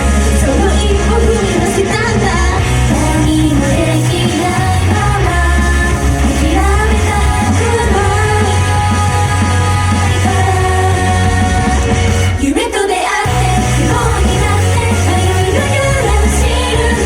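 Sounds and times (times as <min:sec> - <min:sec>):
pop-rock song over sound system: 0:00.0 - 0:17.0.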